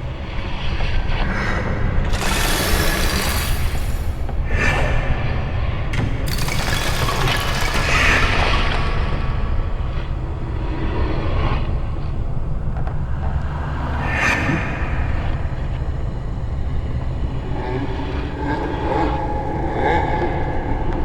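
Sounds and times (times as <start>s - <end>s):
horror ambience: 0.0s - 21.0s.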